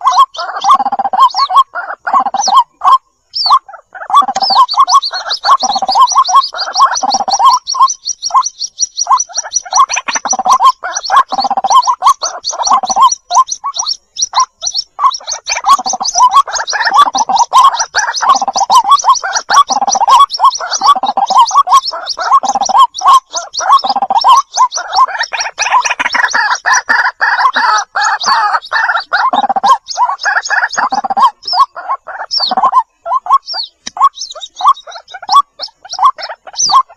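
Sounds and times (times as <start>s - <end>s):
chicks high thin peeps: 0.0s - 36.9s
lower chattering bird call: 0.0s - 36.9s.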